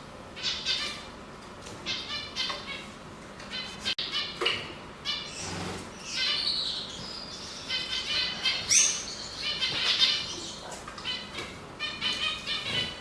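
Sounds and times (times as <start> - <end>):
canary singing trills and chirps: 0.3 - 1.1, 1.8 - 13.0.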